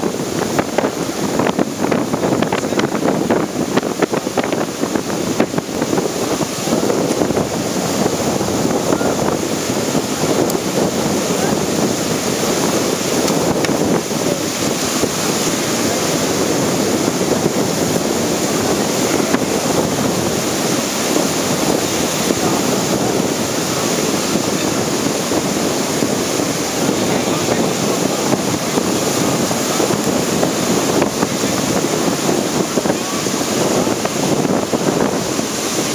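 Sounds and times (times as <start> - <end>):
heavy surf breaking: 0.0 - 35.9
wind buffeting microphone: 0.0 - 35.9.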